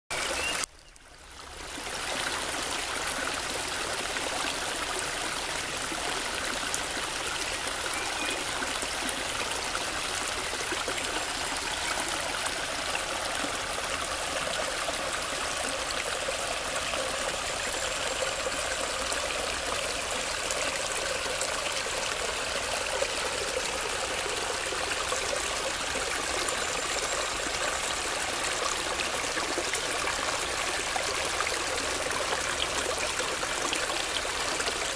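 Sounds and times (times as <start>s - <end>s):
brook running over stones: 0.1s - 34.9s.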